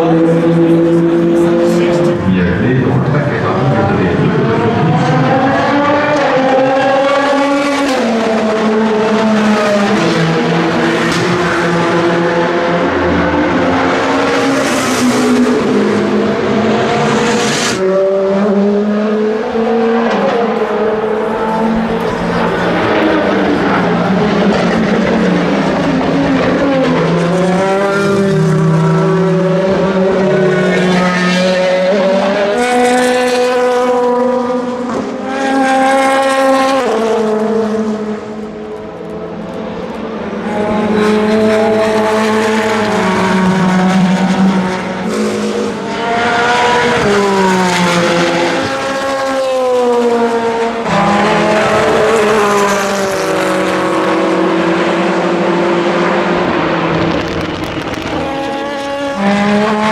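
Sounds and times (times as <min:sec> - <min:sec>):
race car engines at full throttle: 0:00.0 - 0:59.9.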